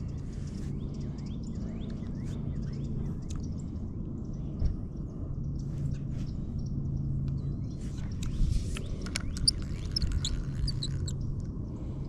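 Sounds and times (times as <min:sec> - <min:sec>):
faint hum: 0:00.0 - 0:12.0
small birds chirping: 0:00.0 - 0:12.0
steady low rumble: 0:00.0 - 0:12.0.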